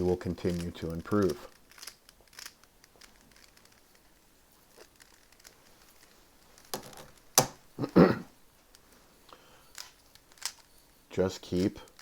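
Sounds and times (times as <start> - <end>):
puzzle cube clicking and scraping: 0.0 - 7.6, 8.6 - 12.0.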